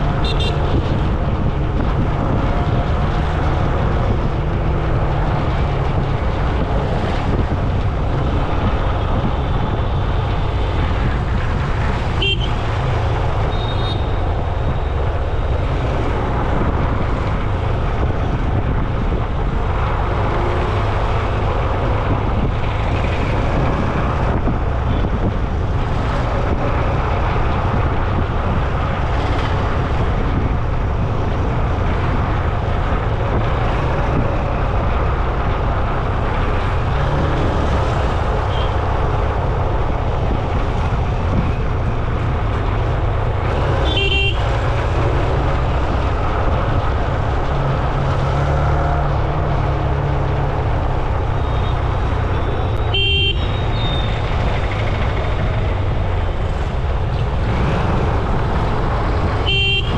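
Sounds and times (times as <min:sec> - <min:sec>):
traffic: 0:00.0 - 0:59.9
wind rumble on microphone: 0:00.0 - 0:59.9.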